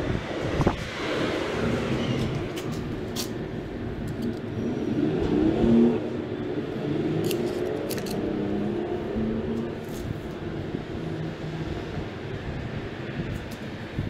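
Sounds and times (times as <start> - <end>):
vehicle engine accelerating: 0.7 - 13.3.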